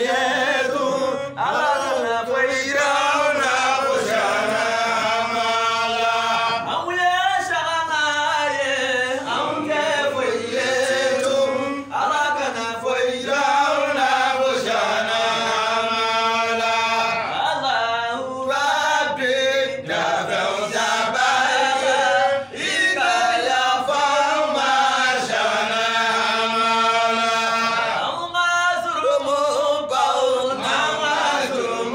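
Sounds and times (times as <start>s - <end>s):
men chanting together: 0.0s - 31.9s.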